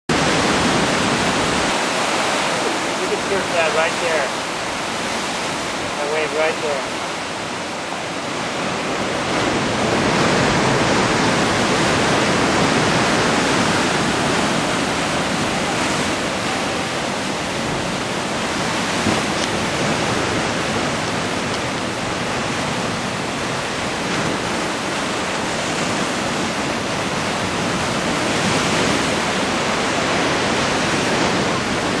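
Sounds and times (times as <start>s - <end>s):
ocean surf breaking: 0.1s - 32.0s.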